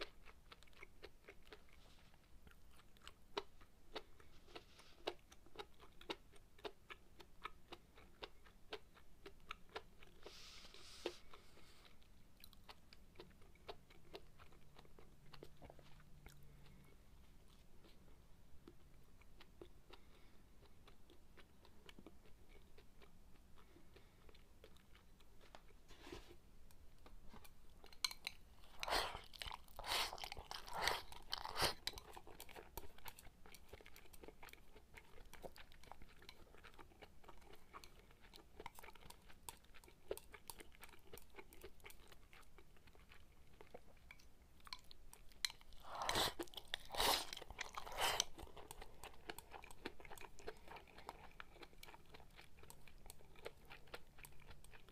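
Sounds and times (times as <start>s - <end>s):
close-up chewing: 0.0s - 54.9s.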